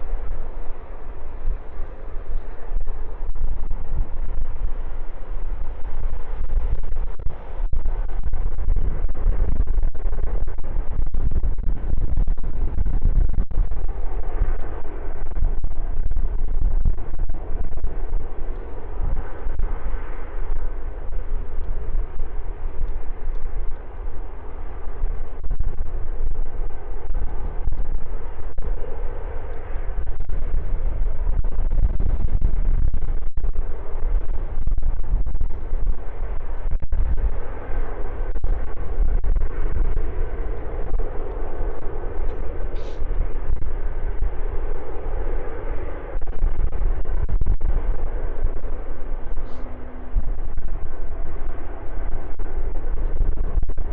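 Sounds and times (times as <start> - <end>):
wind buffeting microphone: 0.0 - 53.9
jet aircraft taking off: 10.4 - 53.9.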